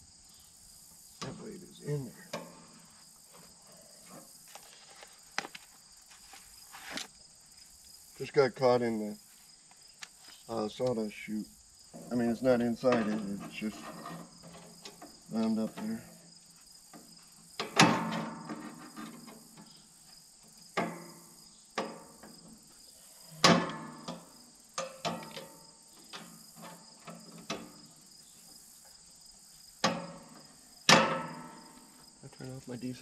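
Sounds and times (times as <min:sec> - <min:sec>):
insect chirring: 0:00.0 - 0:33.0.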